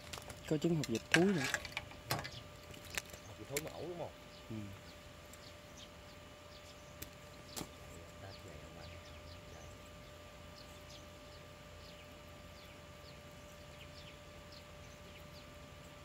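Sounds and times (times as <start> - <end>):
birds chirping faintly: 0.0 - 16.0
faint steady hum: 0.0 - 16.0.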